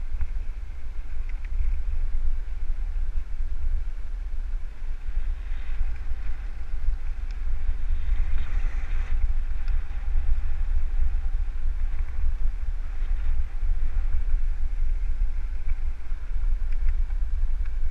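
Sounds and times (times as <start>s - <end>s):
road noise hiss: 0.0s - 17.9s
wind buffeting microphone: 0.0s - 17.9s.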